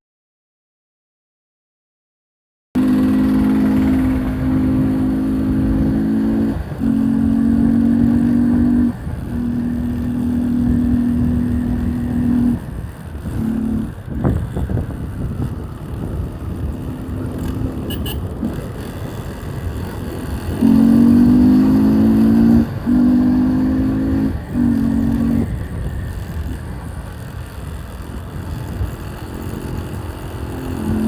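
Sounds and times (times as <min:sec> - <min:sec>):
motorcycle engine droning: 0:02.8 - 0:31.0.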